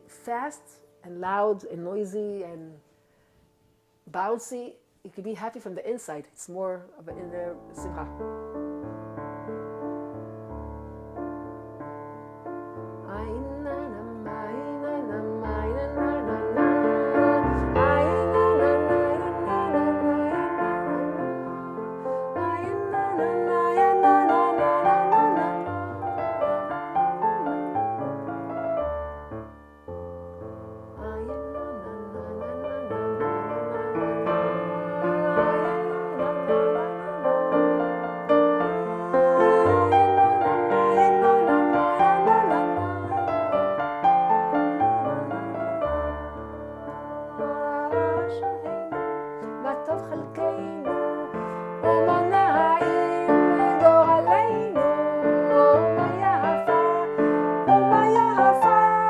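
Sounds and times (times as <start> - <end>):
piano melody over moving bass: 7.1 - 59.0.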